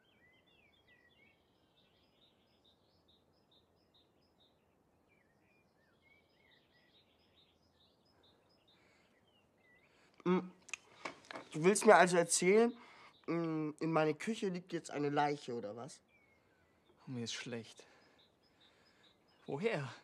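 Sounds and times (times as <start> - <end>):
faint birdsong: 0.0 - 20.0.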